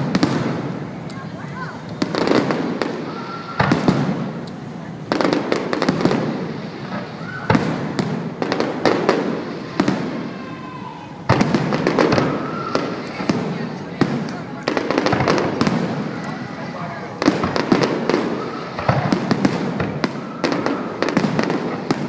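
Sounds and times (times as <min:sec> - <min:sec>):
fireworks booming and crackling: 0:00.0 - 0:22.0
whistling fireworks: 0:00.0 - 0:22.0.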